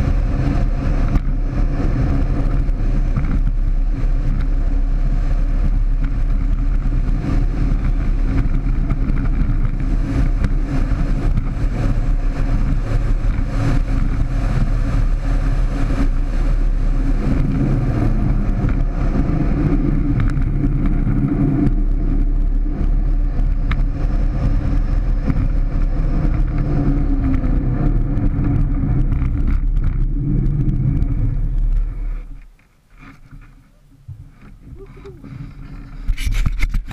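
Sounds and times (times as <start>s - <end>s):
cart wheels rumbling on asphalt: 0.0s - 36.9s.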